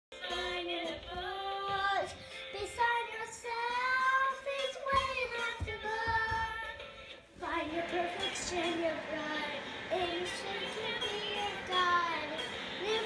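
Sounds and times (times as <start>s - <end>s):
girl singing: 0.1s - 13.0s.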